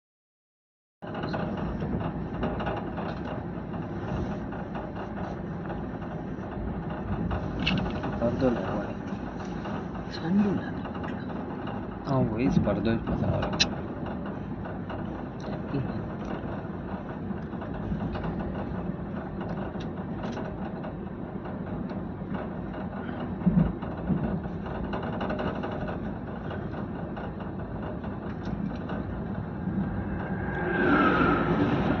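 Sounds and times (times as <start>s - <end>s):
train rumbling on rails: 1.0s - 32.0s.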